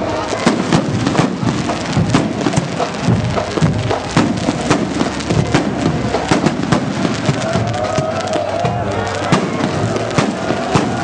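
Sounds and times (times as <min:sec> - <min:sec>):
firecrackers popping: 0:00.0 - 0:11.0
music playing: 0:00.0 - 0:11.0.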